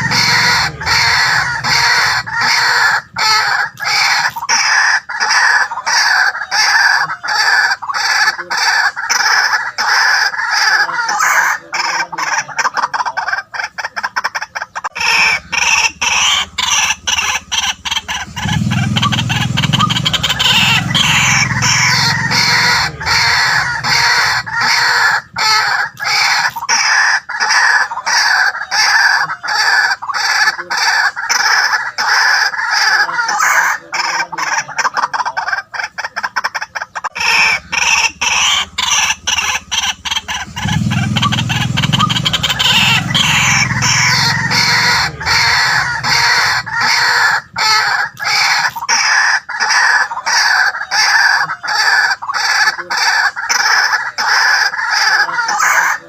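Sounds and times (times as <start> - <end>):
bird croaking: 0.0 - 56.0
waterhen calling: 0.0 - 56.0.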